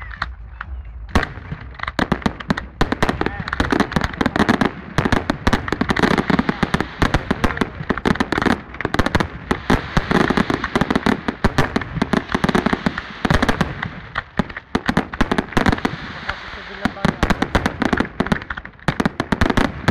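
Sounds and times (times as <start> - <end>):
fireworks bursts and crackling: 0.0 - 19.9.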